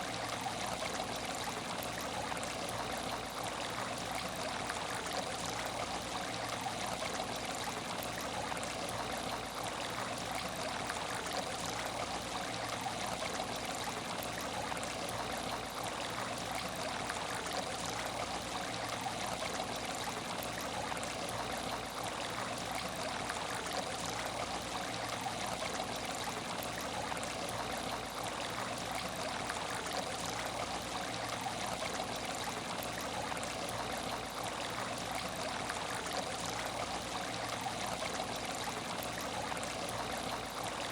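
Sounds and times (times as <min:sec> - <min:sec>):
water trickling in a tank: 0:00.0 - 0:40.9.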